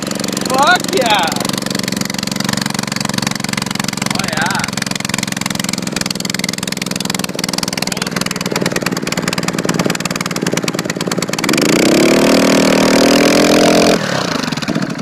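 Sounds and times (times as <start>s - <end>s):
small engine running and revving: 0.0s - 15.0s.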